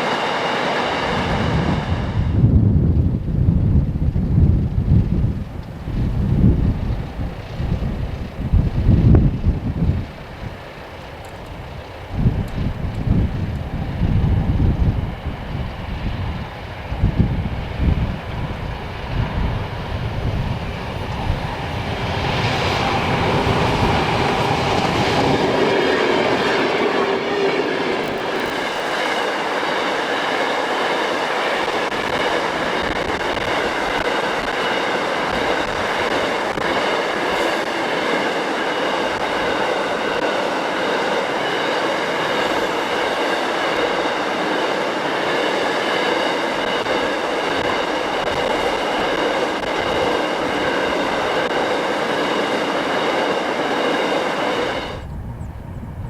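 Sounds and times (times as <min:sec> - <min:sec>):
wind buffeting microphone: 0:00.0 - 0:56.0
train wheels clattering on rails: 0:04.4 - 0:55.1.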